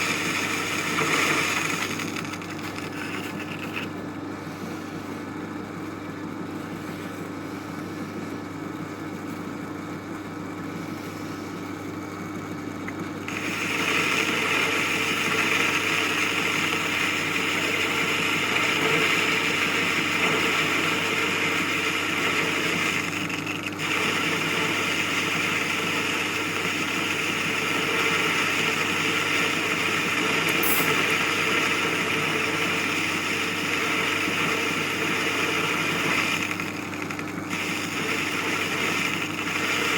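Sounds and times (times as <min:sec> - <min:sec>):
lathe motor hum: 0:00.0 - 0:04.3, 0:11.2 - 0:39.9.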